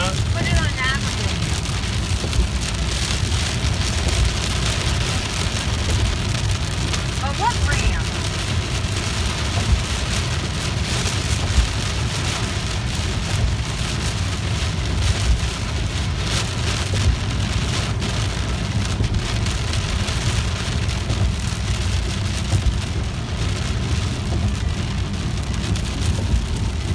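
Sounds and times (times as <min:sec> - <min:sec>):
heavy rain on car roof: 0:00.0 - 0:26.9
road rumble: 0:00.0 - 0:26.9.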